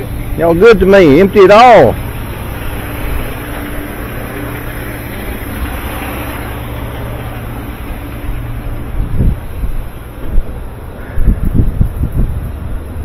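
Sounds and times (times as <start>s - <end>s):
garbage truck engine humming: 0.0s - 13.0s.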